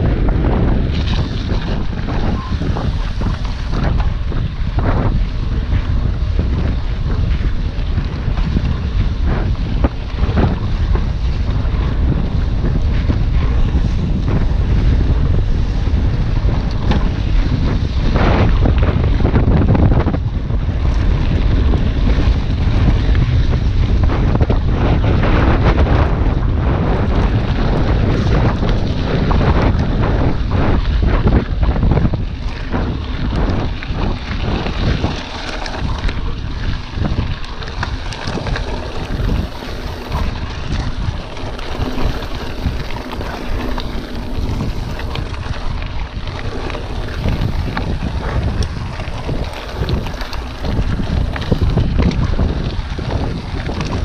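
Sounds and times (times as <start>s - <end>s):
bike tyres on gravel: 0.0s - 19.6s, 20.2s - 54.0s
wind buffeting microphone: 0.0s - 54.0s.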